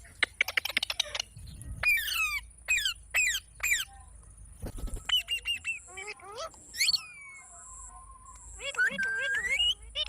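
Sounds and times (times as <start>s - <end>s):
parrot chirps and calls: 0.0s - 10.0s.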